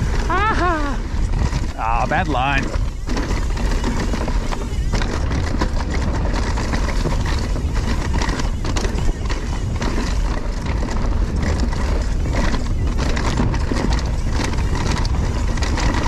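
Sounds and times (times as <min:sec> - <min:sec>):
bike clattering and rattling: 0:00.0 - 0:16.0
rushing wind: 0:00.0 - 0:16.0.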